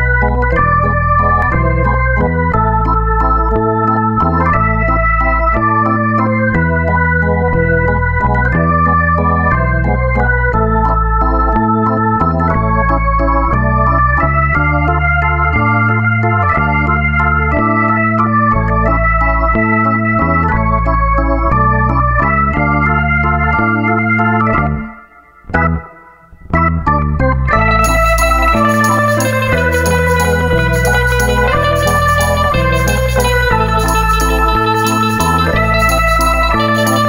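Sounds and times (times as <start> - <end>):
background music with held chords: 0.0 - 37.0.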